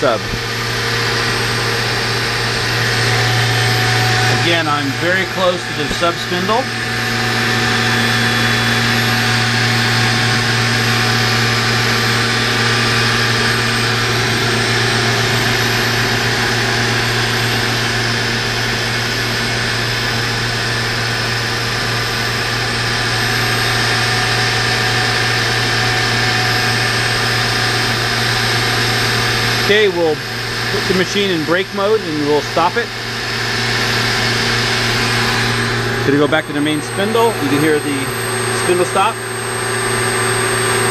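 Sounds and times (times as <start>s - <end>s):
lathe spindle humming: 0.0s - 40.9s.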